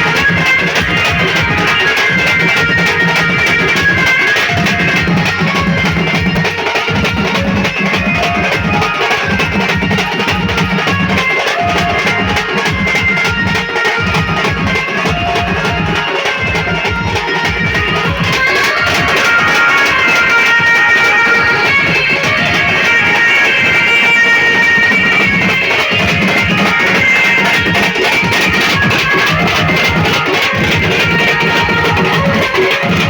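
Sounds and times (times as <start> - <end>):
drums beat: 0.0 - 33.0
instrumental melody: 0.0 - 33.0.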